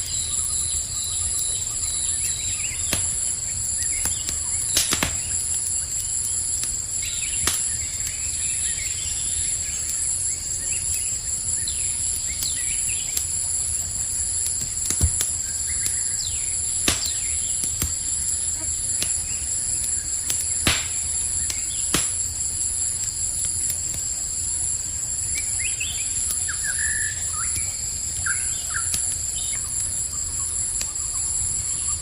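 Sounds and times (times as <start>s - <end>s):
campfire crackling: 0.0s - 32.0s
crickets chirping: 0.0s - 32.0s.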